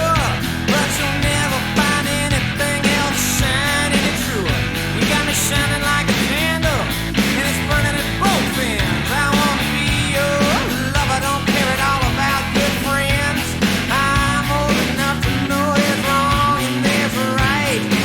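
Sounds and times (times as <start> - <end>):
rock band instrumental: 0.0 - 18.0.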